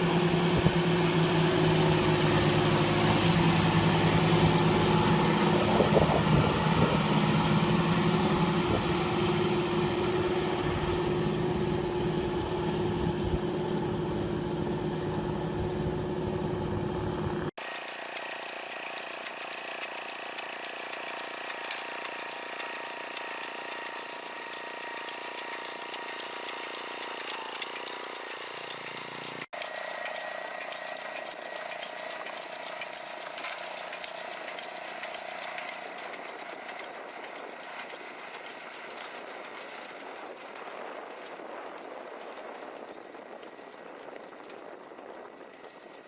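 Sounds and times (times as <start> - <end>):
machinery whining and ticking: 0.0 - 46.0.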